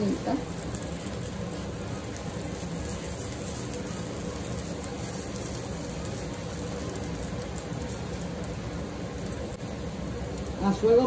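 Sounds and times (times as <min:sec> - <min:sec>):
batter sizzling in butter: 0:00.0 - 0:11.0.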